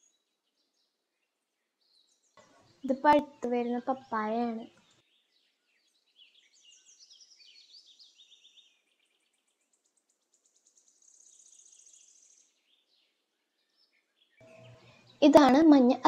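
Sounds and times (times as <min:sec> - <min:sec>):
faint small birds chirping: 0:00.0 - 0:16.0.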